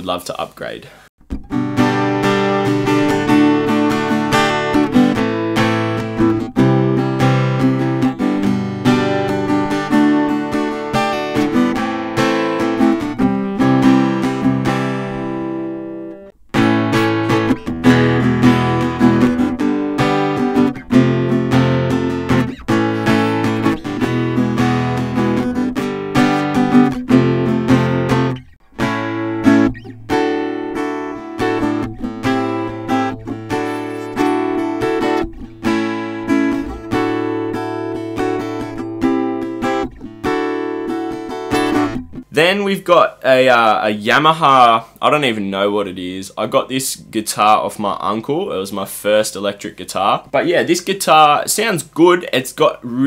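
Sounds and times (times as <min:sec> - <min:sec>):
acoustic guitar chords: 0:01.2 - 0:43.8.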